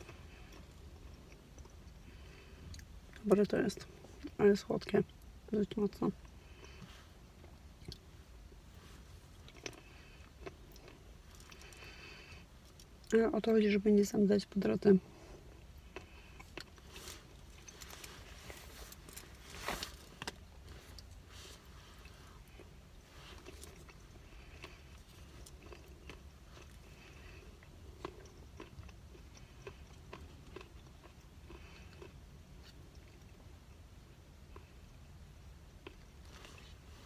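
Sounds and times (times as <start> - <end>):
quiet chewing: 0.0 - 4.4, 6.0 - 8.1, 8.7 - 13.2, 15.0 - 33.8, 34.5 - 35.0, 35.8 - 37.0.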